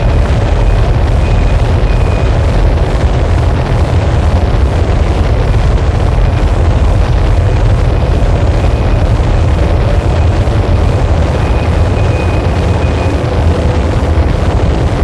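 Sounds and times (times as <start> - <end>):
harsh distorted noise: 0.0 - 15.0.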